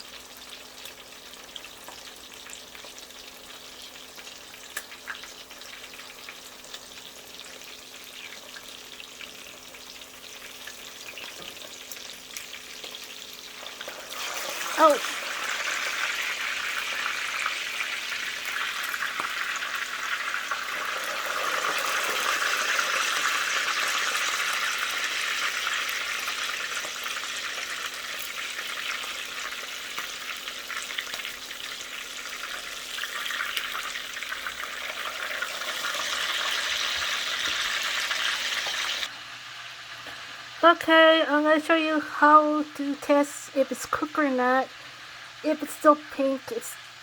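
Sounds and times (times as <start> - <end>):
meat sizzling in oil: 0.0 - 47.0.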